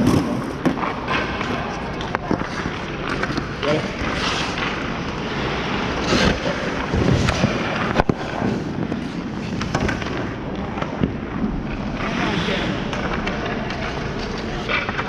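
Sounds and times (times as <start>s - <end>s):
skate blades scraping ice: 0.0s - 10.5s, 11.7s - 15.0s.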